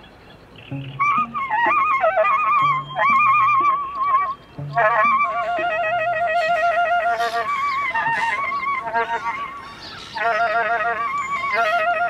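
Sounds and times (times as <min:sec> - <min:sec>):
soprano saxophone melody: 0:00.7 - 0:12.0.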